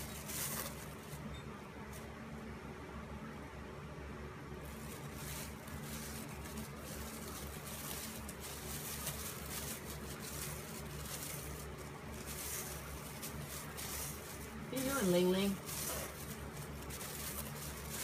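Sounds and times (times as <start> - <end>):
plastic bags rustling and crinkling: 0.0 - 2.2, 4.6 - 18.0
low steady hum: 0.0 - 18.0.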